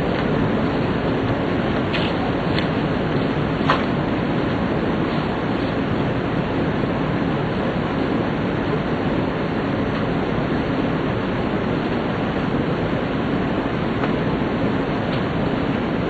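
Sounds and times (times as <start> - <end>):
train running noise at speed: 0.0 - 16.0.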